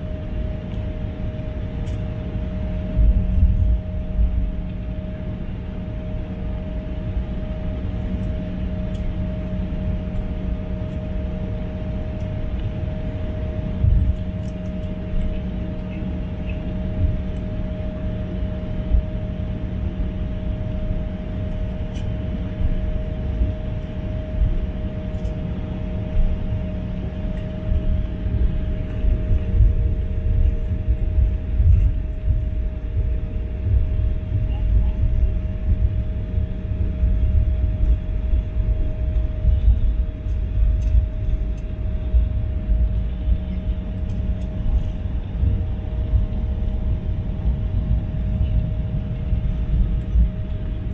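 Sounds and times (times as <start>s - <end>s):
jet engine hum: 0.0s - 50.9s.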